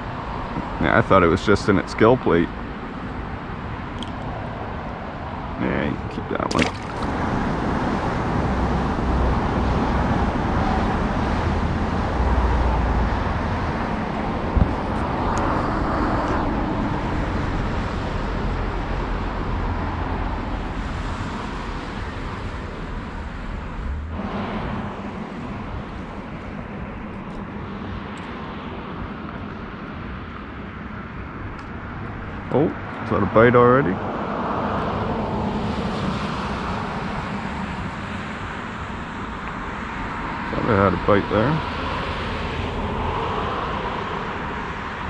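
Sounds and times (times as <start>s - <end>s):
distant road traffic: 0.0s - 45.0s.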